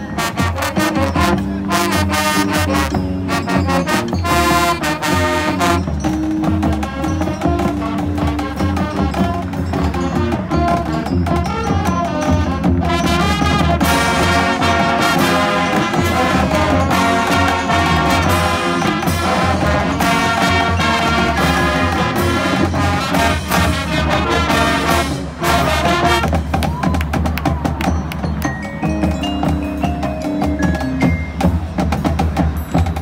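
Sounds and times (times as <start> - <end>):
brass chords: 0.0 - 26.6
marching band playing: 0.0 - 33.0
percussion hits: 0.0 - 33.0.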